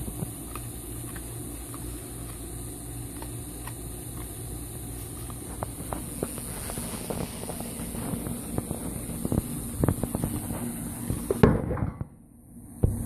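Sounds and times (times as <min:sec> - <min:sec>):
dogs crunching bones: 0:00.0 - 0:11.4.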